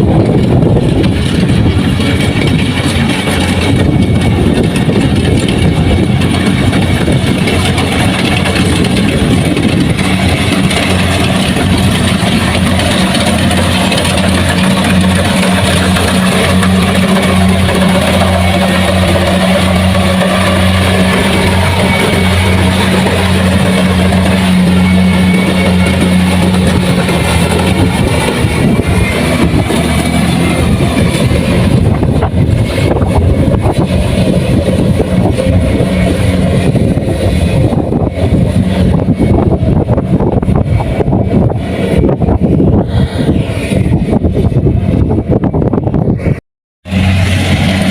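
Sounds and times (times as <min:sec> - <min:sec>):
combine harvester diesel engine: 0:00.0 - 0:47.9
rough rushing noise: 0:00.0 - 0:47.9.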